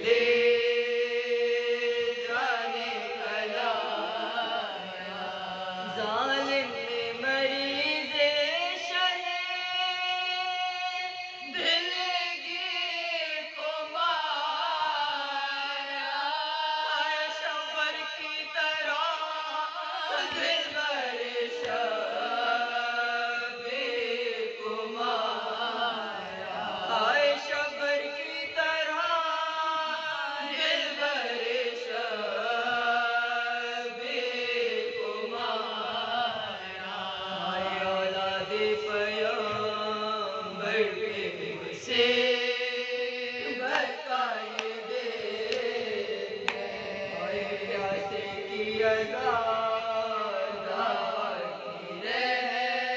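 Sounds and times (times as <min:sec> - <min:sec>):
women singing unaccompanied chant: 0:00.0 - 0:52.9.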